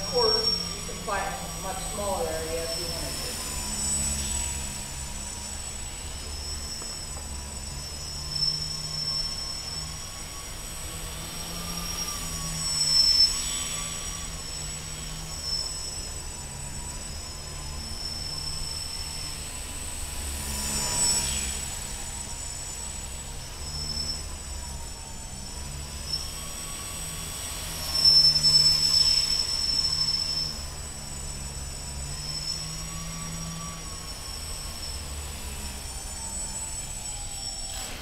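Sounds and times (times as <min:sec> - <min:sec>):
model plane motor whining: 0:00.0 - 0:38.0.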